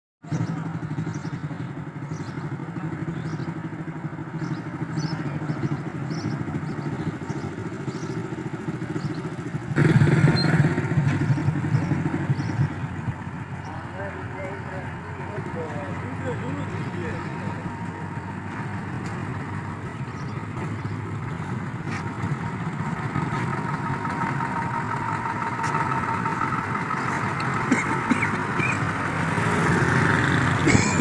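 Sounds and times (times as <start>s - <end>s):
vehicle engine humming: 0.2s - 31.0s.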